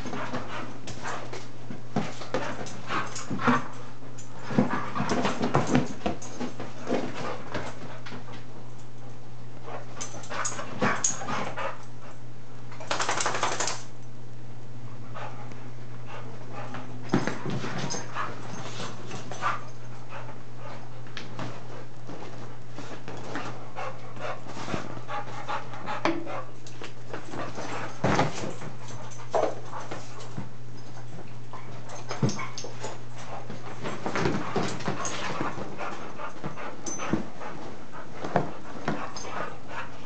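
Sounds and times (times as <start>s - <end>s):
dogs playing and scuffling: 0.0s - 14.1s, 14.8s - 40.0s
steady low hum: 0.0s - 40.0s.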